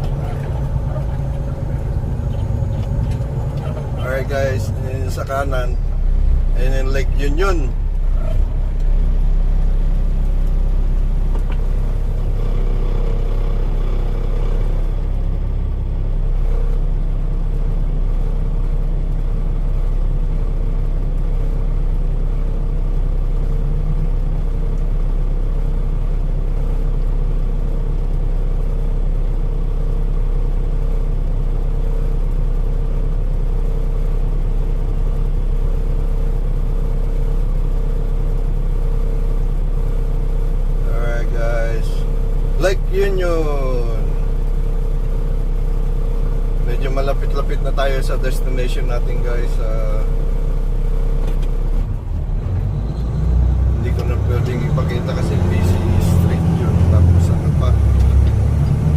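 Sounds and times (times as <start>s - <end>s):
road noise: 0.0s - 58.9s
truck engine rumbling: 0.0s - 58.9s.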